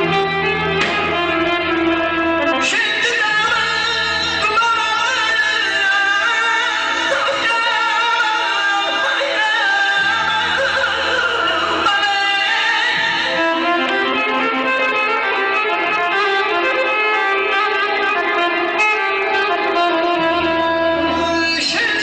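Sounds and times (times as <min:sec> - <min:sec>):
accordion: 0:00.0 - 0:22.0
plucked lutes: 0:00.0 - 0:22.0.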